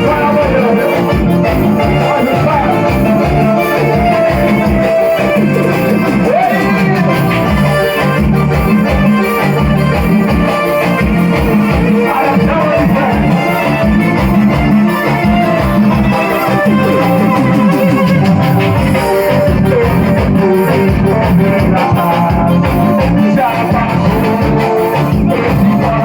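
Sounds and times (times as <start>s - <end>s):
heavy bass beat: 0.0s - 26.0s
latin music with singing: 0.0s - 26.0s.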